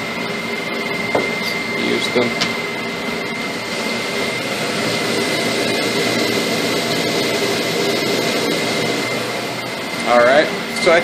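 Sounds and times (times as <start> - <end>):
lab equipment roaring: 0.0 - 11.0
thin high whine: 0.0 - 11.0.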